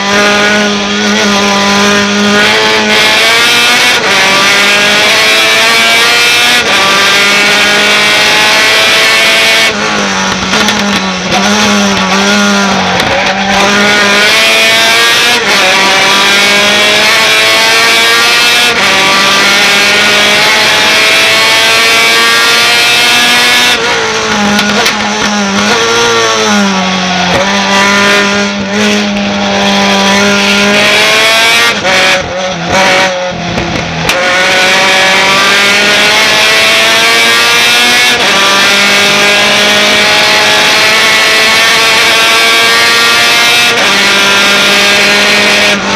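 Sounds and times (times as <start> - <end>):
truck engine accelerating hard: 0.0 - 45.9.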